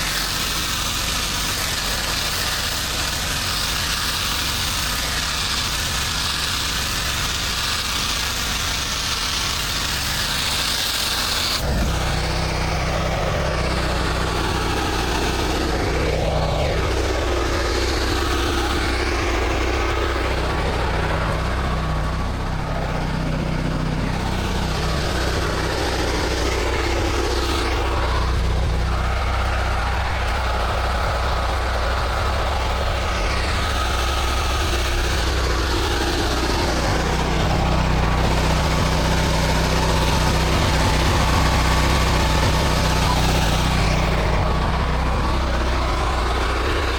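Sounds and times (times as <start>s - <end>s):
pressure washer engine humming: 0.0s - 46.9s
water spraying hiss: 0.0s - 46.9s.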